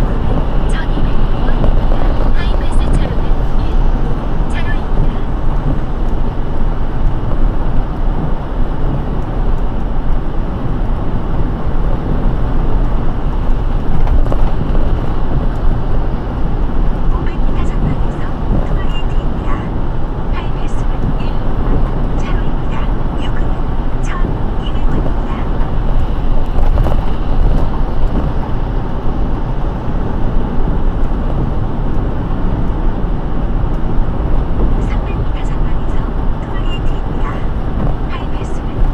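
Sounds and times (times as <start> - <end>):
rain noise: 0.0 - 38.9
tyres rumbling on wet road: 0.0 - 38.9.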